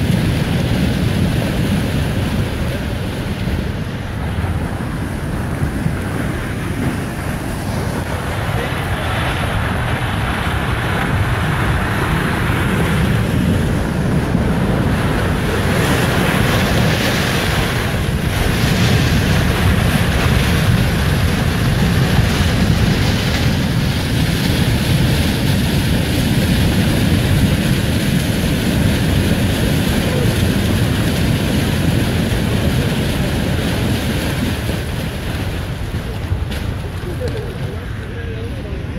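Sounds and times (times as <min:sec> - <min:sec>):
mud and rocks rushing down stream: 0:00.0 - 0:38.9.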